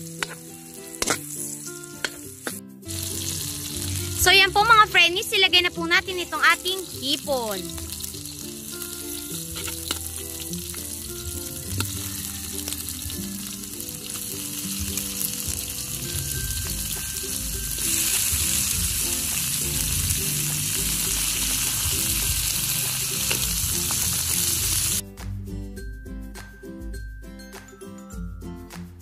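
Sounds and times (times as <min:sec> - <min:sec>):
shrimp sizzling in hot oil: 0:00.0 - 0:04.6, 0:06.0 - 0:25.0.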